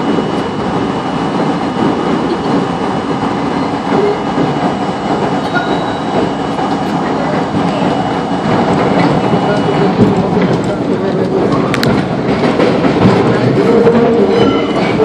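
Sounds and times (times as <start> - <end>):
train clatter over switches: 0.0 - 15.0
train wheels rumbling on rails: 0.0 - 15.0.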